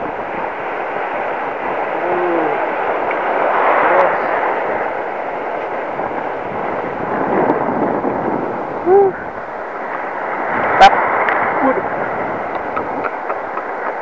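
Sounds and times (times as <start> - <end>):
waves breaking: 0.0 - 14.0.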